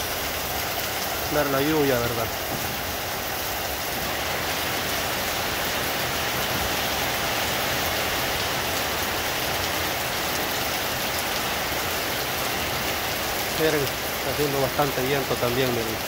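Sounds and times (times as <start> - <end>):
heavy rain on leaves and roof: 0.0 - 16.0.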